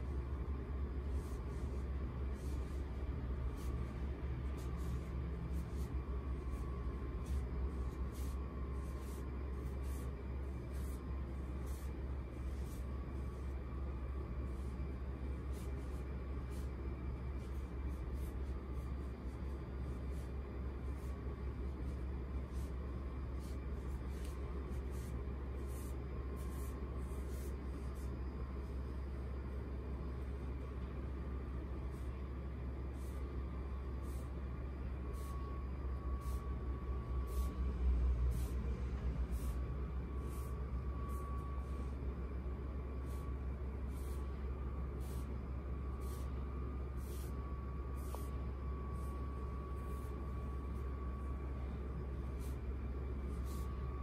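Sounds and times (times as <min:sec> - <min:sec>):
soft brushing: 0:00.0 - 0:29.2, 0:31.8 - 0:54.0
faint steady whine: 0:00.0 - 0:54.0
steady low hum: 0:00.0 - 0:54.0.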